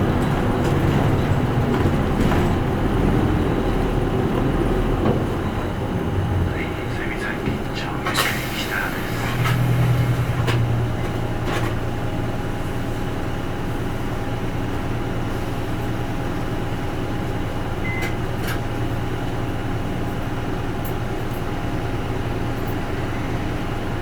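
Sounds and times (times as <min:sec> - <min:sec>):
diesel bus engine idling: 0:00.0 - 0:24.0.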